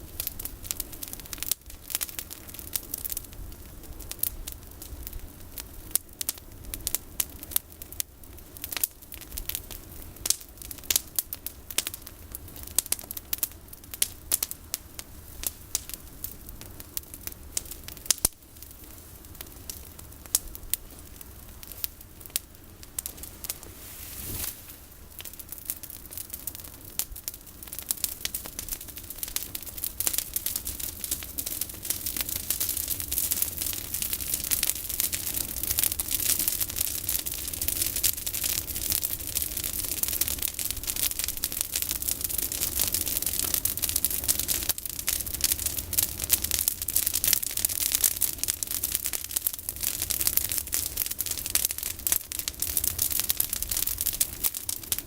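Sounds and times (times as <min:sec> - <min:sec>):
bonfire crackling and hissing: 0:00.0 - 0:55.0.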